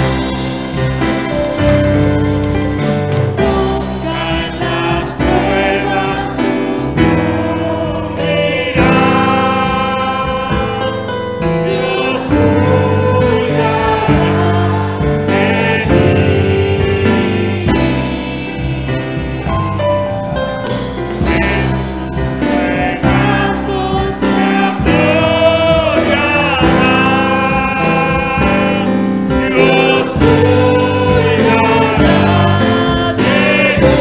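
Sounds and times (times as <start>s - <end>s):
group singing a hymn: 0.0s - 34.0s.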